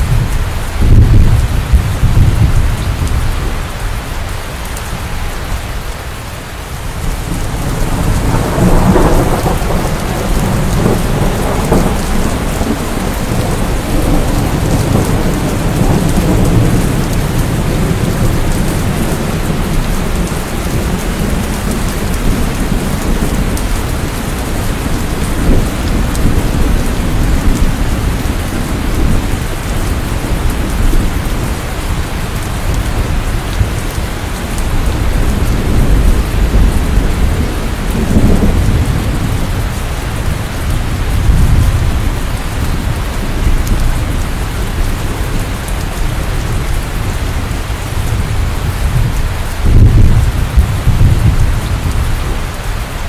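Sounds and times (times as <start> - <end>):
thunder rumbling: 0.0 - 3.8, 6.8 - 53.0
steady rain falling: 0.0 - 53.0.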